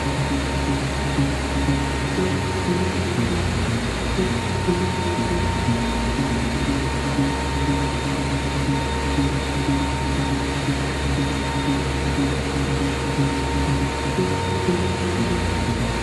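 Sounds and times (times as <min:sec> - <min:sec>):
background music: 0:00.0 - 0:16.0
rushing ventilation air: 0:00.0 - 0:16.0.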